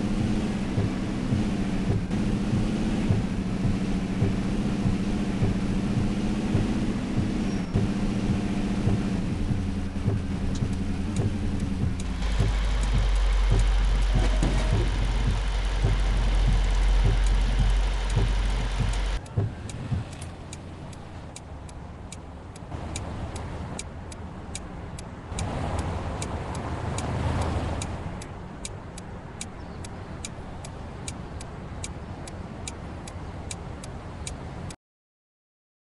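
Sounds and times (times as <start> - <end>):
car engine and road rumble: 0.0 - 34.8
turn signal ticking: 0.0 - 34.8.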